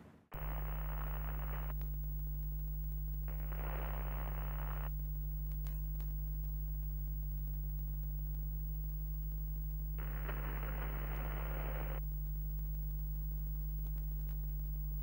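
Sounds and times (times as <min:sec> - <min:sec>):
low electrical hum: 0:00.4 - 0:15.0
short crackle: 0:00.4 - 0:15.0
static hiss bursts: 0:00.4 - 0:15.0.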